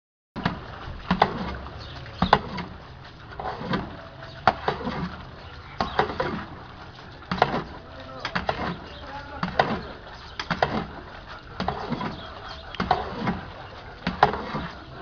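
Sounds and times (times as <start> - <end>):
metal paddle knocking and scraping pot: 0.4 - 15.0.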